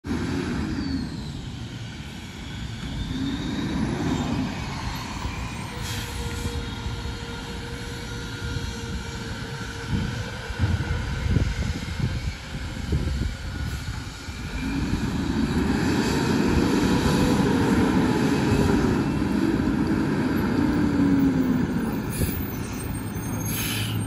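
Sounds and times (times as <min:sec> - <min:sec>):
steady whine: 0:00.1 - 0:23.7
diesel engine rumbling: 0:00.1 - 0:24.0.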